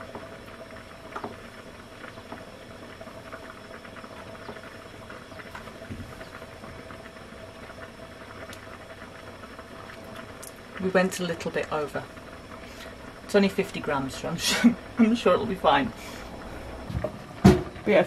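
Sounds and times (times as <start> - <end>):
pot bubbling and crackling: 0.0 - 18.0
steady hiss: 0.0 - 18.0.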